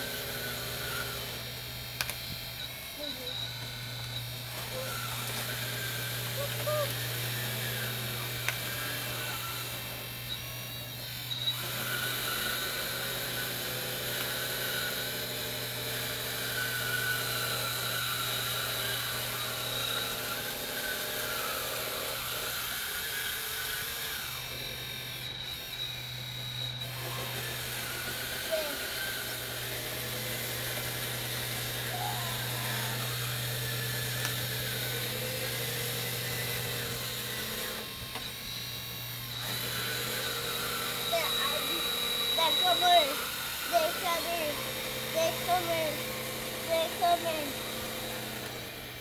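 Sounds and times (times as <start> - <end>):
electric motors whining: 0.0 - 49.0.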